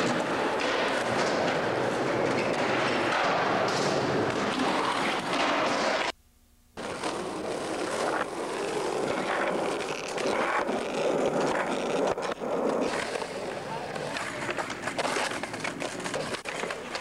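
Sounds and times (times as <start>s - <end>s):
skateboard wheels rolling: 0.0s - 6.2s, 6.8s - 17.0s.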